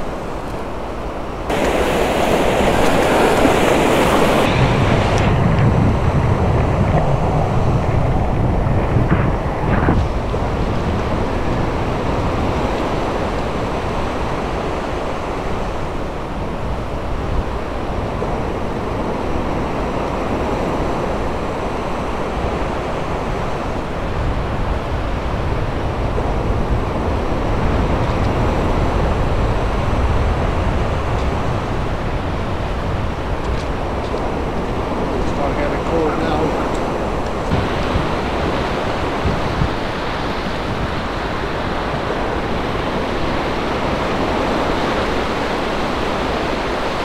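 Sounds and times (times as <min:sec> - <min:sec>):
sea waves breaking on beach: 0:00.0 - 0:47.0
wind rumbling on microphone: 0:00.0 - 0:47.0.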